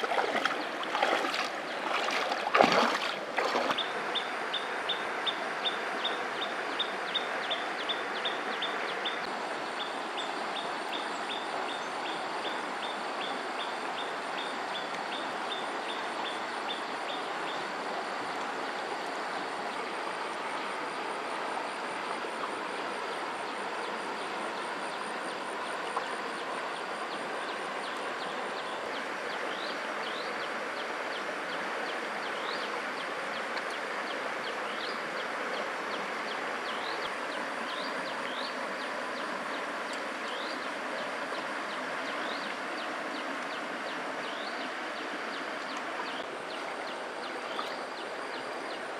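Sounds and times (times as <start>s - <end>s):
flowing river water: 0.0s - 48.9s.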